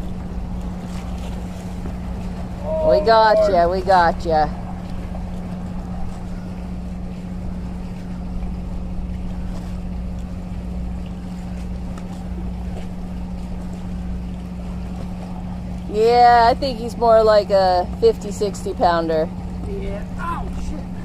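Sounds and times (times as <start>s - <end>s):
low rumble: 0.0s - 18.1s
motor humming steadily: 0.0s - 21.0s.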